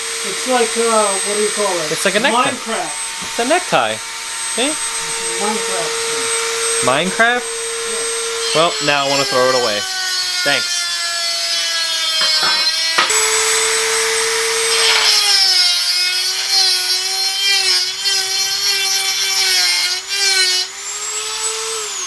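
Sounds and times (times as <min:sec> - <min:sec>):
rotary tool whining: 0:00.0 - 0:22.0.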